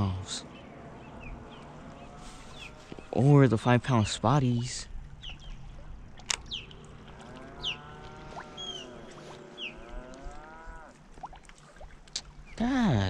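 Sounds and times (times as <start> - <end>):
distant motorboat engine droning: 0.0 - 11.2.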